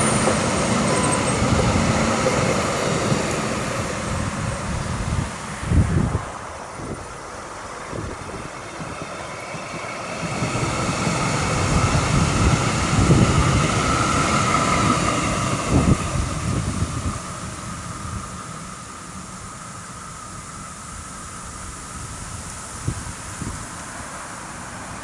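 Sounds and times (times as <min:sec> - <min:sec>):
light-rail car passing: 0:00.0 - 0:25.0.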